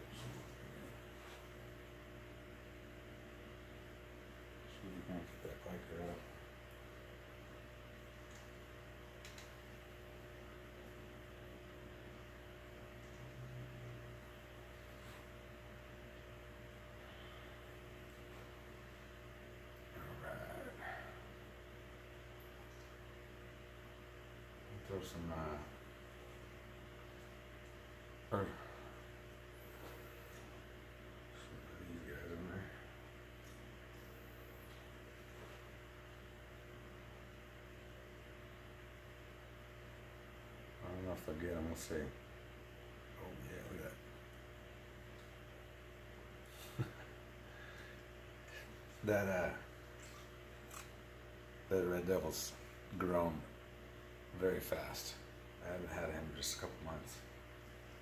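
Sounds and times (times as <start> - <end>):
electrical hum with low buzz: 0.0 - 58.0.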